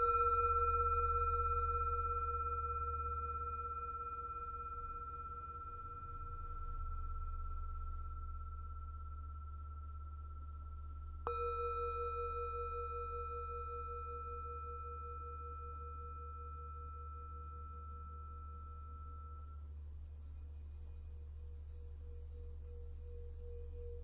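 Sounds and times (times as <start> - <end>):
low hum: 0.0 - 24.0
singing bowl ringing: 0.0 - 24.0.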